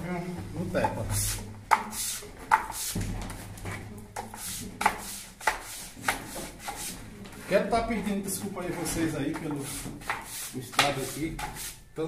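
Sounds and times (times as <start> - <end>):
plastering float scraping plaster: 0.9 - 7.7, 8.3 - 11.9.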